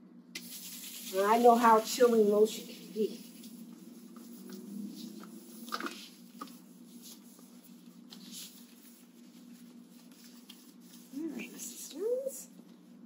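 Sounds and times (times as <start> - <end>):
steady low hum: 0.0 - 13.0
hands rubbing lotion into skin: 0.4 - 12.2.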